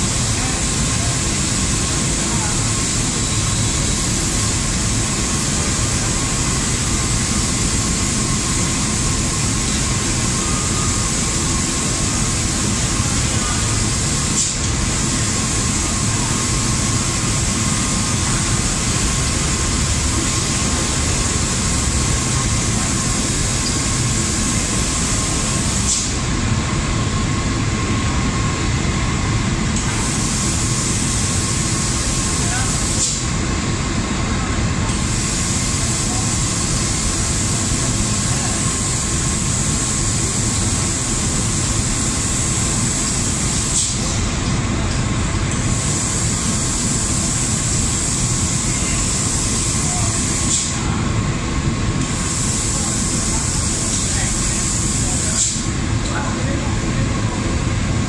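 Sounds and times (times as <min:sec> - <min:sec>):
spray-painting machine hiss and hum: 0:00.0 - 0:58.0.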